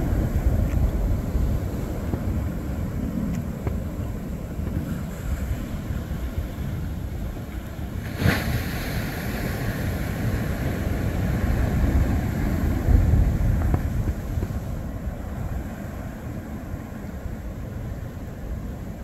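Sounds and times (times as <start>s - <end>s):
surf rumble: 0.0s - 19.0s
wind buffeting microphone: 0.0s - 19.0s.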